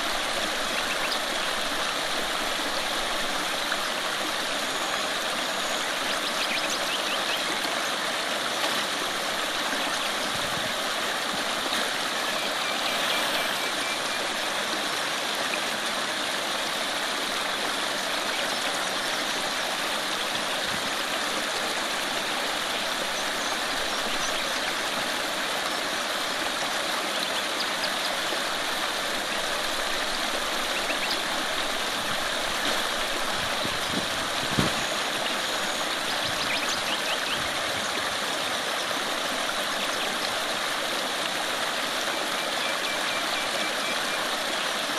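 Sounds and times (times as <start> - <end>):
creek running over rocks: 0.0 - 44.9.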